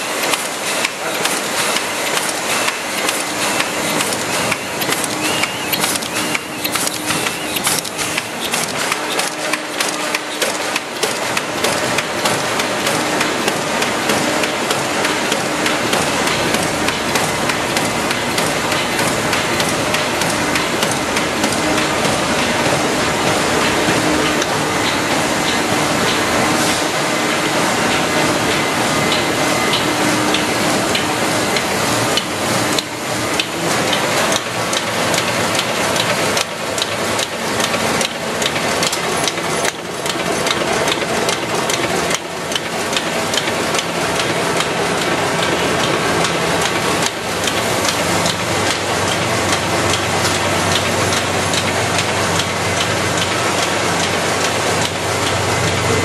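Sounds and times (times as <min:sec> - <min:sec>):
printing press clattering: 0:00.0 - 0:56.0.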